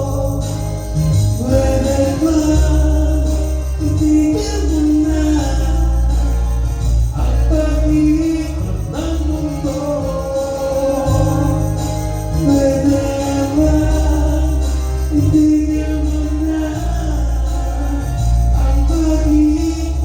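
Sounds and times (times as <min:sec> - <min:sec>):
person singing sustained notes: 0:00.0 - 0:20.0
steady bass line: 0:00.0 - 0:20.0.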